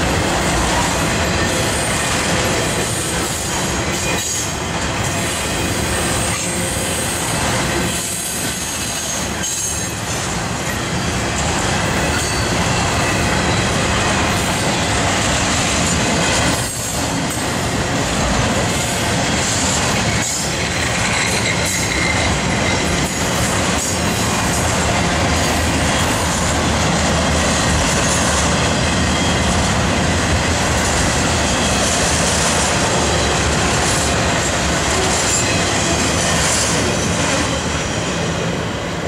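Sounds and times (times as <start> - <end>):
freight train wheels rumbling: 0.0 - 39.0.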